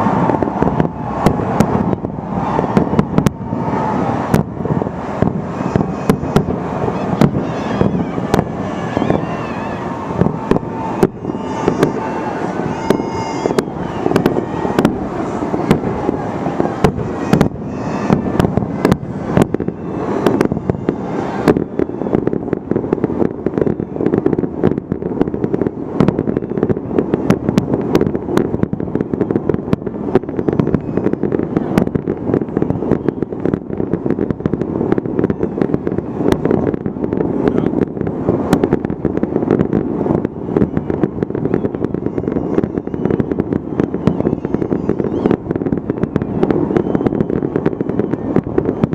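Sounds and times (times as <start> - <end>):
continuous rumble: 0.0 - 48.9
fireworks bangs and crackling: 0.0 - 48.9.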